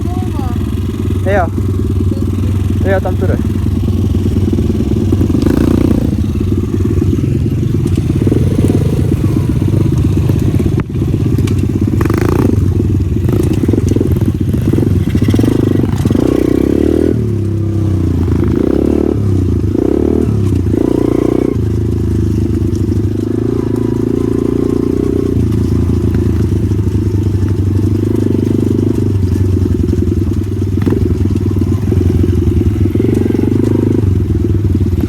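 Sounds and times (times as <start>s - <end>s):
pit bike engine revving: 0.0s - 35.0s.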